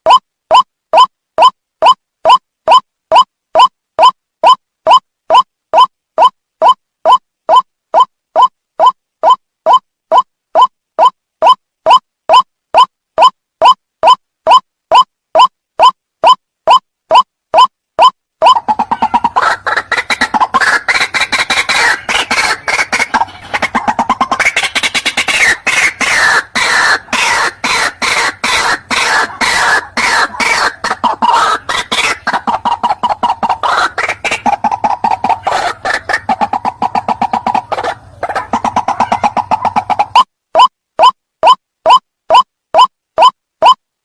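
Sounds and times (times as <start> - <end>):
bird calling rapid notes: 0.0 - 43.8.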